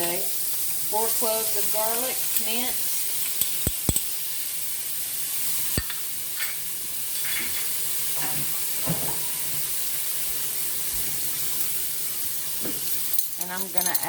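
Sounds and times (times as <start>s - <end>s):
onion sizzling in a pan: 0.0s - 14.0s.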